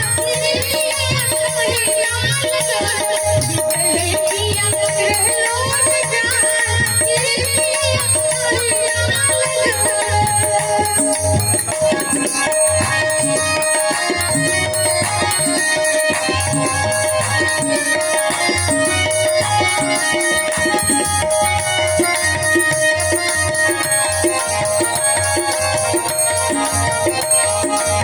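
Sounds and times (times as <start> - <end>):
hand drum rhythm: 0.0 - 28.0.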